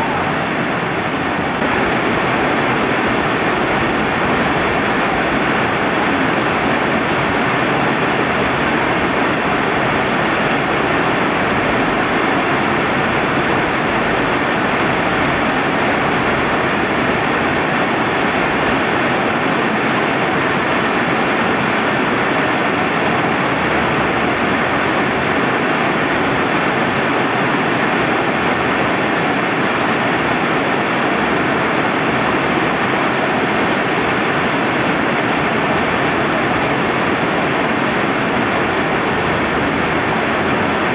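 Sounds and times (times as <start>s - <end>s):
river flowing: 0.0s - 40.9s
steady rain: 0.0s - 40.9s.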